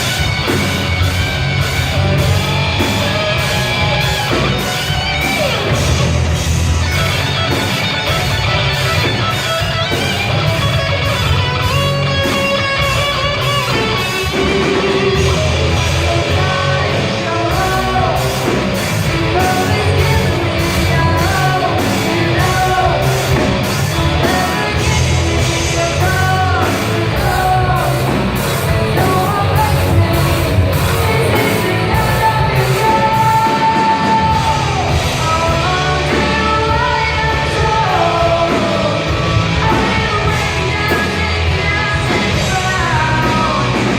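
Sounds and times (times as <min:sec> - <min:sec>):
hard rock song: 0:00.0 - 0:43.9
person singing and yelling: 0:06.9 - 0:43.9.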